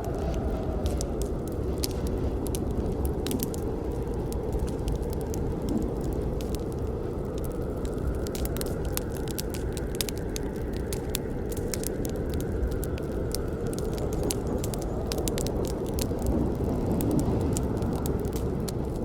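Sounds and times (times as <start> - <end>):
burning wood crackling: 0.0 - 19.0
flames rushing: 0.0 - 19.0.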